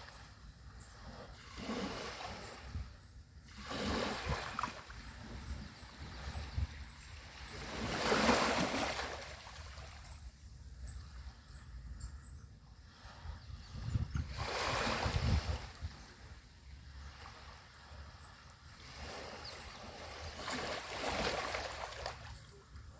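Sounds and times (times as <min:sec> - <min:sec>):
small waves breaking on beach: 0:00.0 - 0:11.5, 0:12.8 - 0:22.9.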